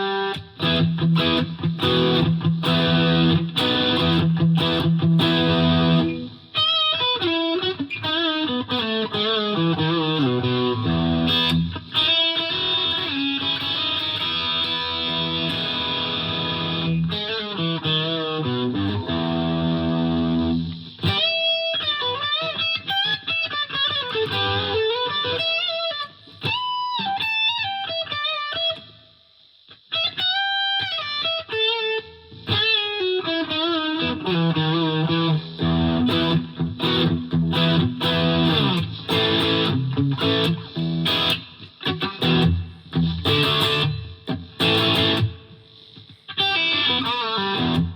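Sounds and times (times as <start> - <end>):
overdriven electric guitar: 0.0 - 47.9.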